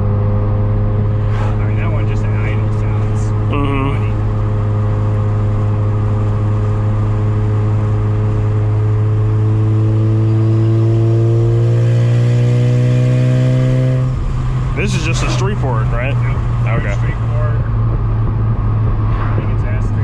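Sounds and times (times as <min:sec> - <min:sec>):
car engine droning from inside: 0:00.0 - 0:20.0.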